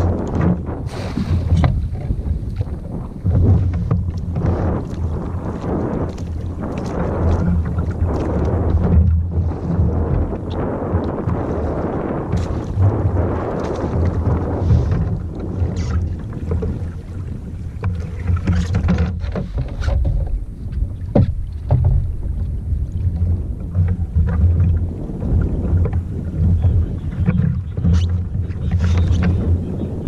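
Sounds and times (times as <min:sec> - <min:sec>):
water sloshing against kayak: 0:00.0 - 0:30.0
wind buffeting microphone: 0:00.0 - 0:30.0.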